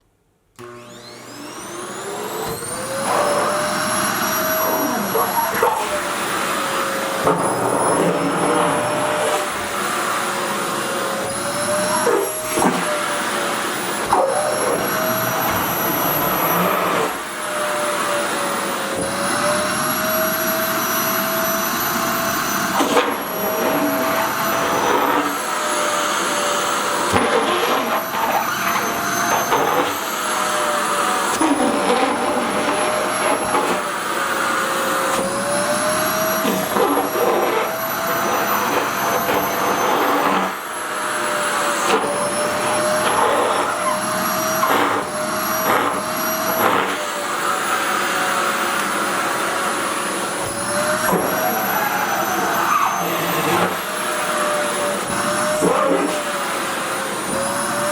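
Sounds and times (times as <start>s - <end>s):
vacuum cleaner running: 0.6s - 57.9s.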